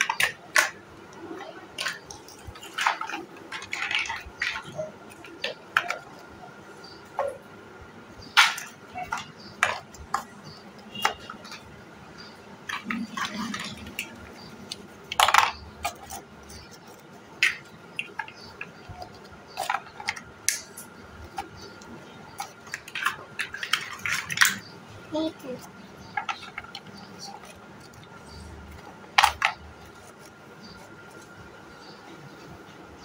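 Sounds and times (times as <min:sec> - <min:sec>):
plastic blocks clacking: 0:00.0 - 0:06.5, 0:08.2 - 0:32.5.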